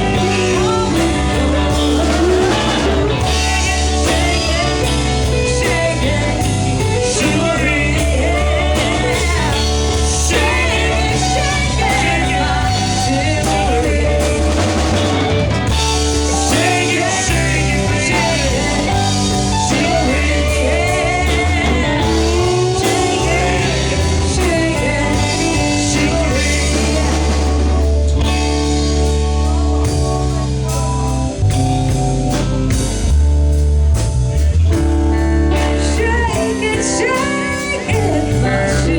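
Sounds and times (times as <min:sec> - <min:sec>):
person singing: 0:00.0 - 0:31.0, 0:35.6 - 0:38.9
blues-rock band playing: 0:00.0 - 0:38.9.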